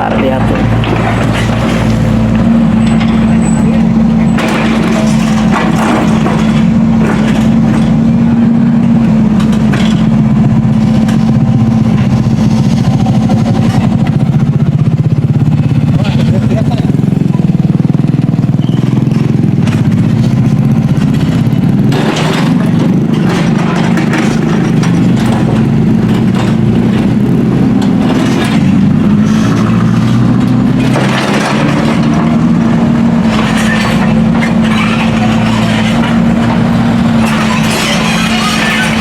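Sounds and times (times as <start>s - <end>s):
bursts of rough noise: 0.0s - 39.0s
engine running: 0.0s - 39.0s.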